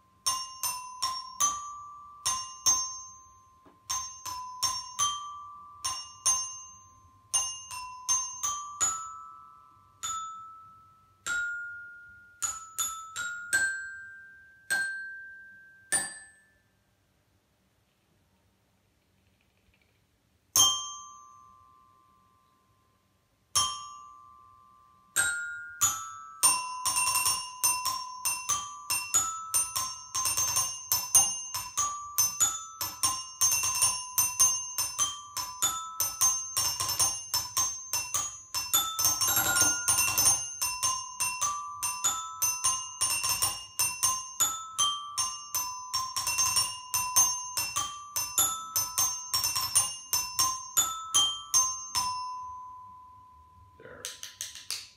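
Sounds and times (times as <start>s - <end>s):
toy xylophone notes: 0.0s - 16.7s, 23.6s - 54.9s.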